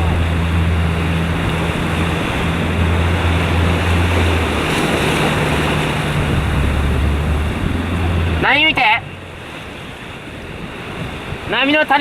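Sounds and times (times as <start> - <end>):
low motor hum: 0.0 - 10.2
wind rushing over microphone: 0.0 - 11.6
water splashing: 0.0 - 12.0.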